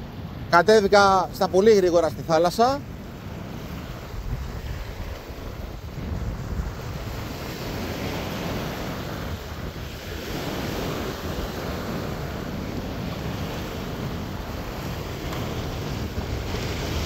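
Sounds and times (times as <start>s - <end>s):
sea waves washing on shore: 0.0s - 17.0s
wind buffeting microphone: 2.7s - 17.0s.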